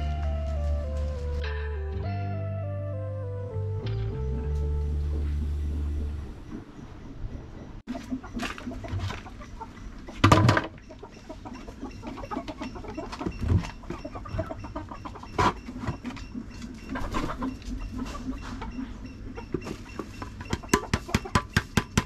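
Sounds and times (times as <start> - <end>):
chickens clucking: 4.1 - 22.0.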